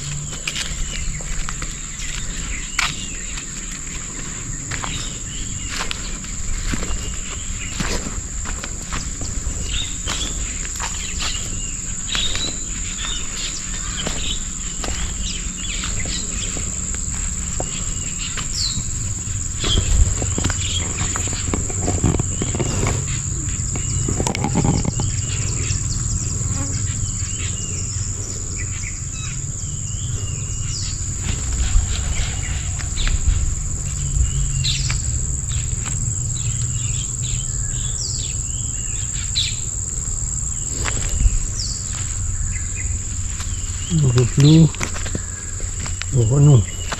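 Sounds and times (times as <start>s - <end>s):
low rumble: 0.0s - 46.2s
high-pitched insect drone: 0.0s - 46.9s
bird chirps: 8.9s - 46.9s.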